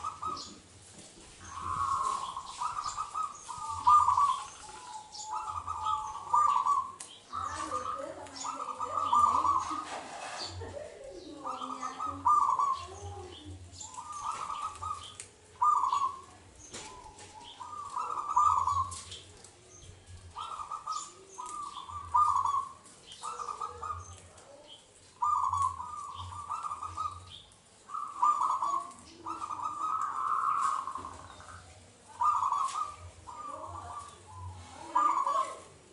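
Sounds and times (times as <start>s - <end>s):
dove cooing: 0.0s - 35.9s.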